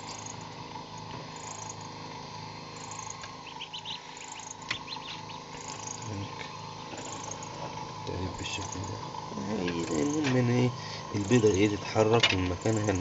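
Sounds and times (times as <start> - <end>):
small fan humming: 0.0 - 13.0.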